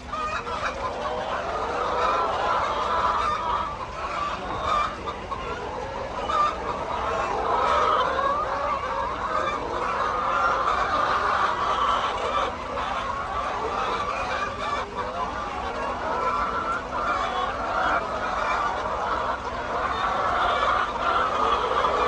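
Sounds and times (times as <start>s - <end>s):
flock of hens clucking: 0.0s - 22.0s.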